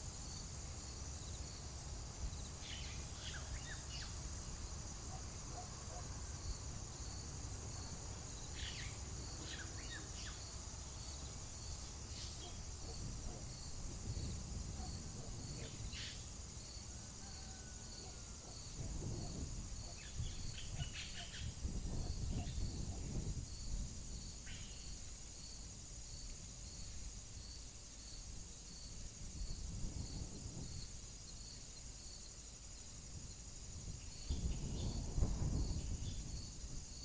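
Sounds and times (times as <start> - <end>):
insect chirring: 0.0 - 37.0
pulsed insect chirp: 0.0 - 37.0.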